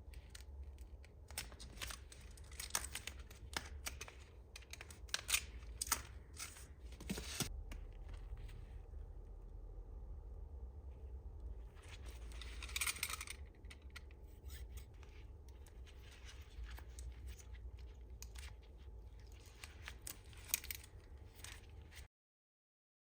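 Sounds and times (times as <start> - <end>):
tools and plastic packaging handled: 0.0 - 8.6, 11.8 - 22.1
low steady hum: 0.0 - 22.1.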